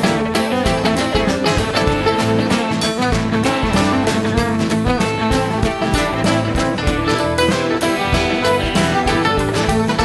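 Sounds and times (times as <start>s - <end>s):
acoustic guitars: 0.0s - 10.0s
fiddle: 0.0s - 10.0s
folk band music: 0.0s - 10.0s.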